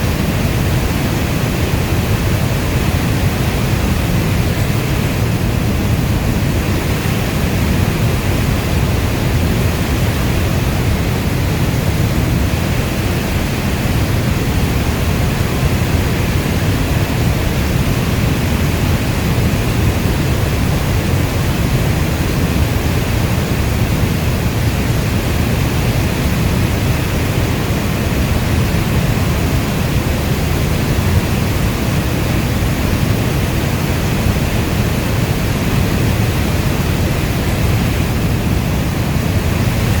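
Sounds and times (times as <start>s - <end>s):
heavy rain rumbling: 0.0s - 40.0s.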